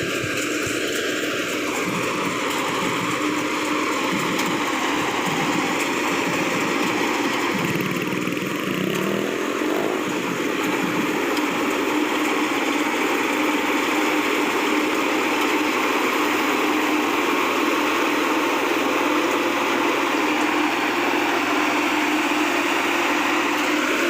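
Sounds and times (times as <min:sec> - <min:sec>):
combine harvester running: 0:00.0 - 0:24.0.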